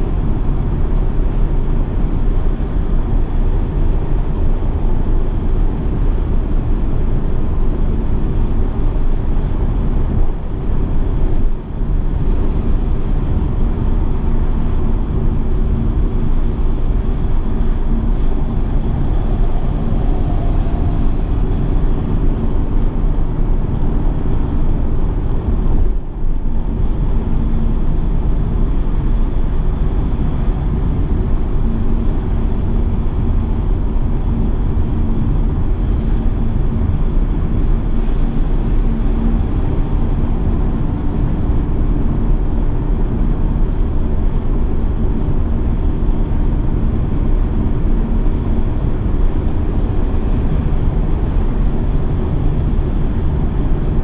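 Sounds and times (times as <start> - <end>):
car driving at speed: 0.0 - 54.0.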